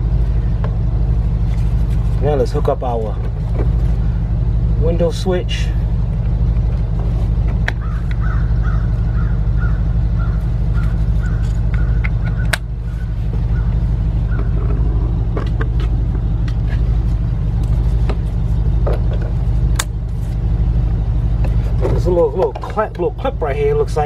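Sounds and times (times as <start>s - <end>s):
low engine hum: 0.0s - 24.0s.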